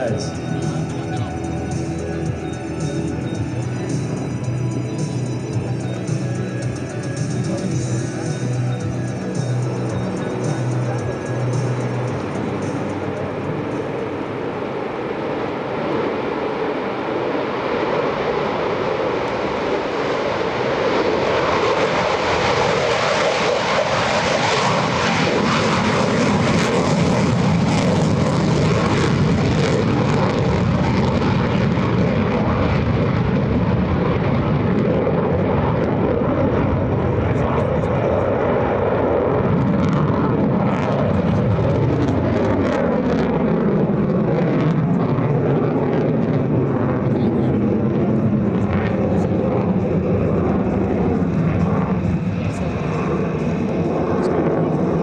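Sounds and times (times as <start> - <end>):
jet engine roaring: 0.0 - 55.0.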